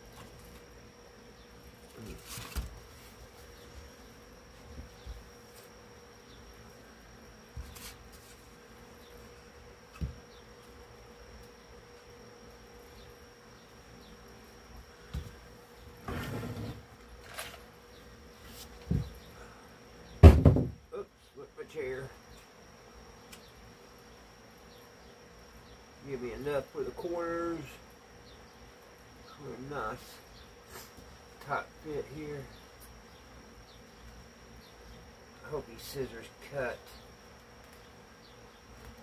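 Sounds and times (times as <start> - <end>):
faint hum with high whine: 0.0 - 39.0.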